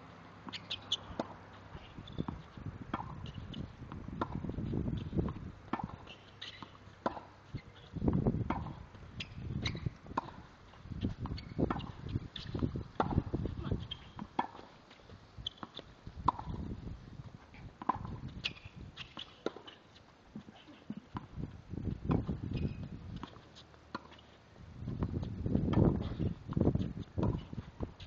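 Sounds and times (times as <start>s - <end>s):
racket hitting tennis ball: 0.4s - 16.8s, 17.4s - 28.0s.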